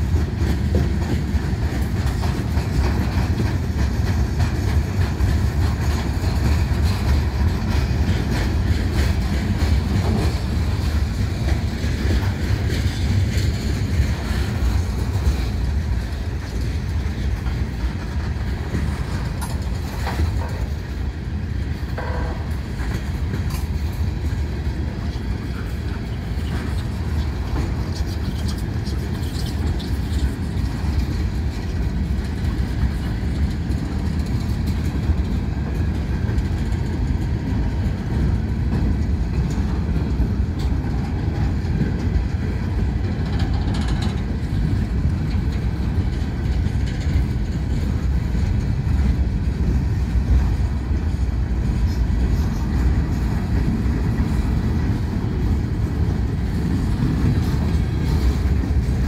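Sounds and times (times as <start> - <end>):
train wheels rumbling on rails: 0.0 - 59.0
wheels clickety-clack: 0.0 - 59.0.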